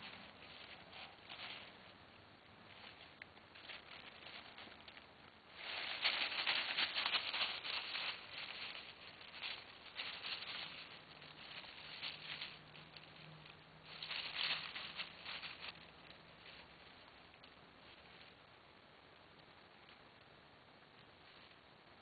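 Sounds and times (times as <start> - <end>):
dry leaves rustling and crackling: 0.0 - 20.1.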